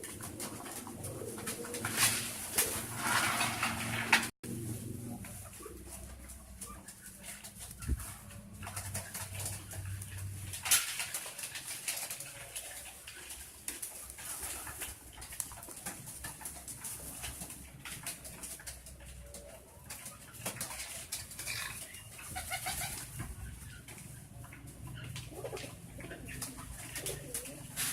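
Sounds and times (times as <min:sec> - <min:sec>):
pigeons cooing: 0:00.0 - 0:27.9.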